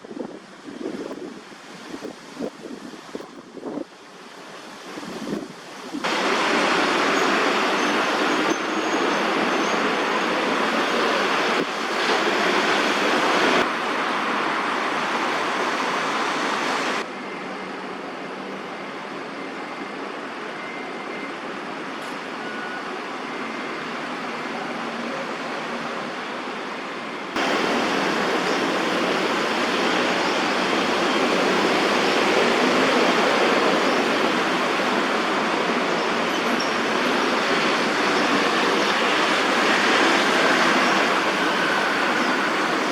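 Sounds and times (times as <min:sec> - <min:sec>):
rushing wind: 0:00.0 - 0:42.9.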